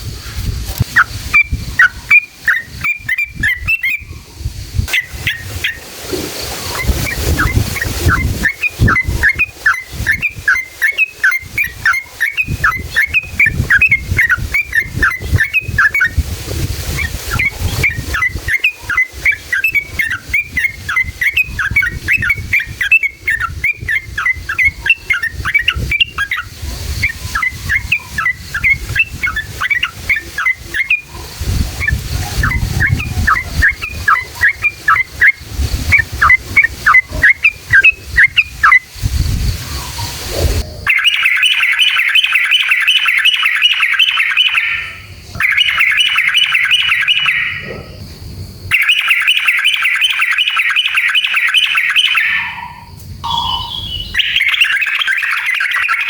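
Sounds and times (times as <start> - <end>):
bird chirping: 0.9 - 4.2, 4.8 - 5.8, 6.6 - 16.2, 16.9 - 56.0.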